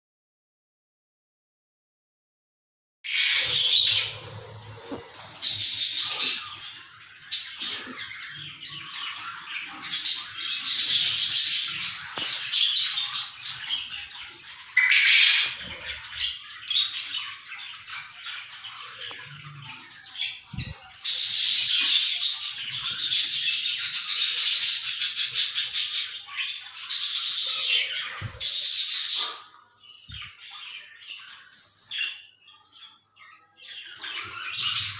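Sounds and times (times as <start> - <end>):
small birds chirping and squawking: 3.1 - 34.9.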